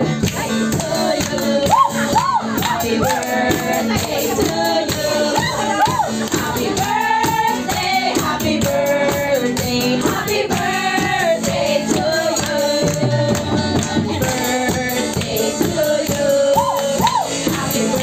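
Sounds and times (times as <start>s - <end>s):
hands clapping along: 0.0s - 18.0s
live band with drums and bass: 0.0s - 18.0s
women singing into microphones: 0.0s - 18.0s.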